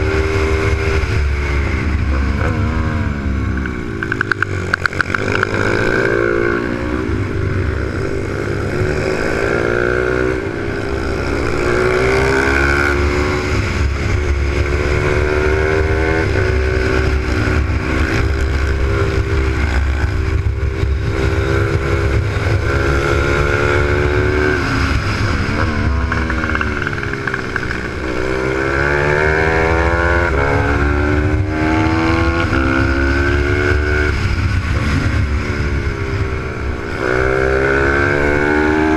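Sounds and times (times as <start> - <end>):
motorcycle engine revving: 0.0 - 38.9
wind rumble on microphone: 0.0 - 38.9.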